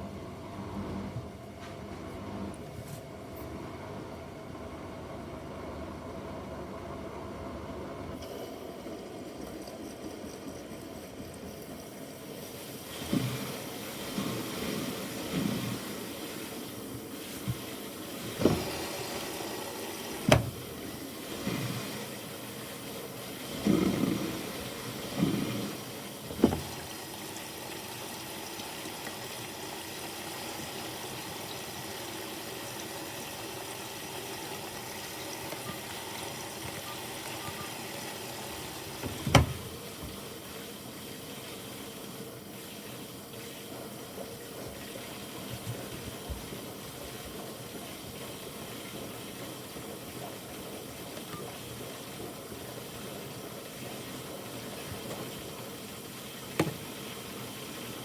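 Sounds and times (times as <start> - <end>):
washing machine water sloshing: 9.0 - 58.0.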